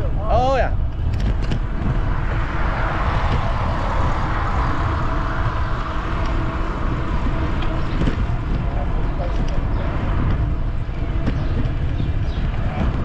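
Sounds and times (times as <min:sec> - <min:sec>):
passing car tyre noise: 0:00.0 - 0:13.0
wind buffeting microphone: 0:00.0 - 0:13.0.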